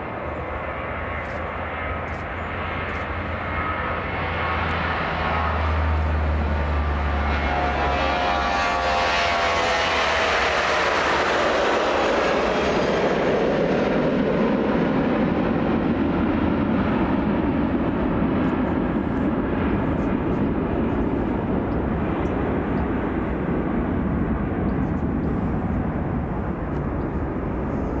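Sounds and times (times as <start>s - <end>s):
jet engines at takeoff: 0.0s - 28.0s.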